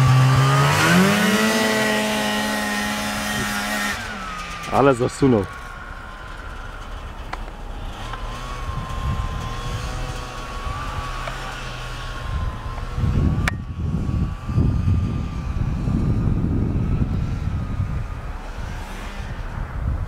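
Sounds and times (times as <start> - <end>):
low rumbling: 0.0 - 20.0
snowmobile engine whine: 0.0 - 20.0.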